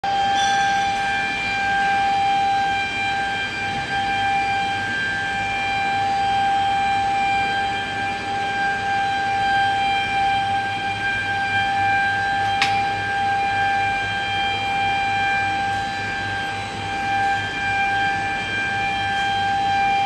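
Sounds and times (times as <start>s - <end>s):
high-pitched machine whine: 0.0s - 20.0s.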